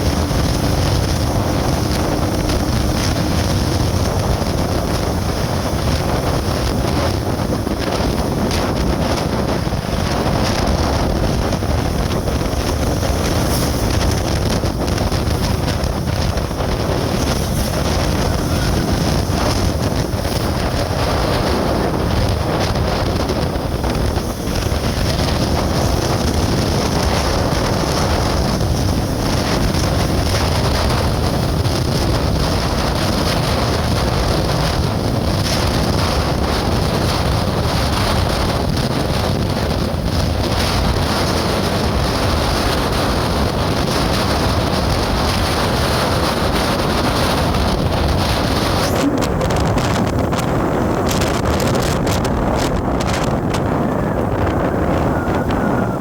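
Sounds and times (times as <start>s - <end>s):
vehicle road noise: 0.0s - 56.0s
wind on microphone: 0.0s - 56.0s.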